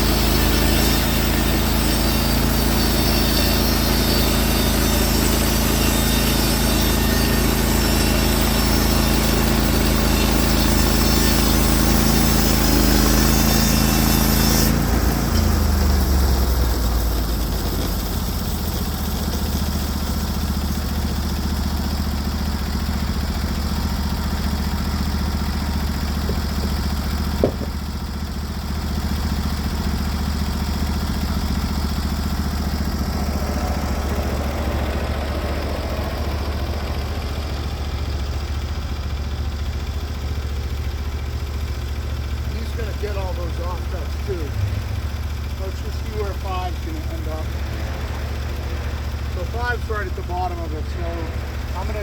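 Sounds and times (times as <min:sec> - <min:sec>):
gas engine idling: 0:00.0 - 0:52.0.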